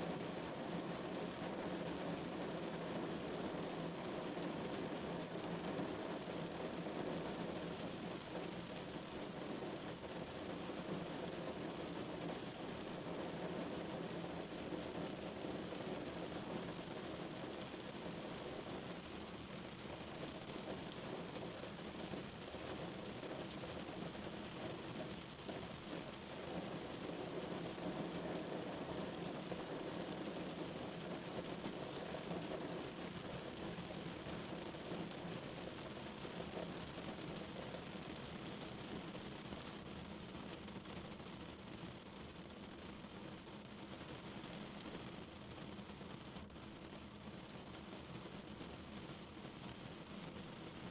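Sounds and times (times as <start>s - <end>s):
rain drumming on a car: 0.0s - 50.9s.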